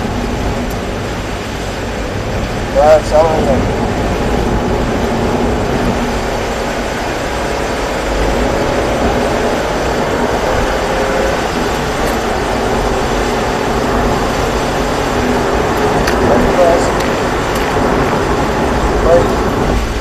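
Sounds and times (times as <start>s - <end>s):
car engine accelerating: 0.0s - 20.0s
road and tyre noise: 0.0s - 20.0s.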